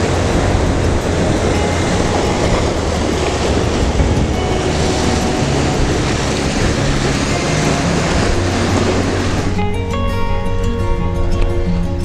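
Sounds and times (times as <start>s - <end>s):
sea waves surging among rocks: 0.0s - 9.9s.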